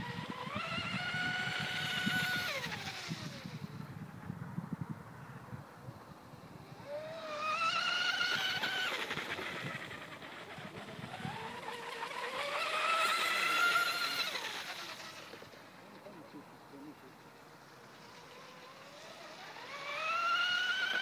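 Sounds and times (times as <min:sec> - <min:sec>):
rc boat motor whine: 0:00.0 - 0:21.0.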